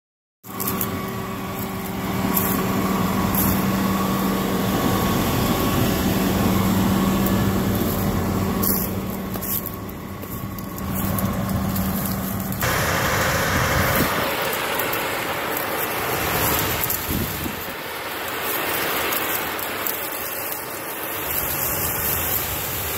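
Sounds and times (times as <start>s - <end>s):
diesel engine running: 0.4s - 22.9s
steady rushing noise: 0.5s - 22.9s.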